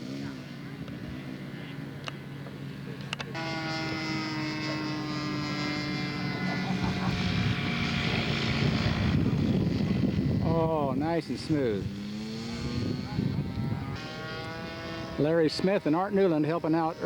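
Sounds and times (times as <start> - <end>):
model airplane engine running: 0.0 - 17.0.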